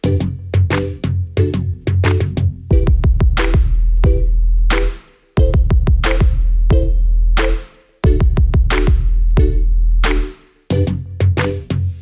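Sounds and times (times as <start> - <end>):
electronic music with drum machine: 0.0 - 12.0.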